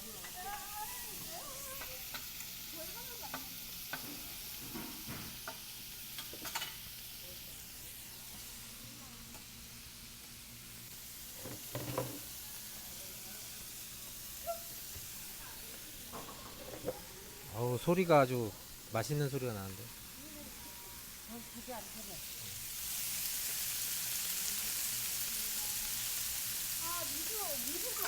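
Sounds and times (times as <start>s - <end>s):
pork sizzling on griddle: 0.0s - 28.0s.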